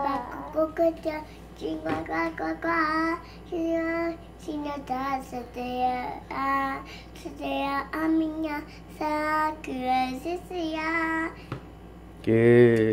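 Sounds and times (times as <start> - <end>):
girl singing: 0.0 - 11.5.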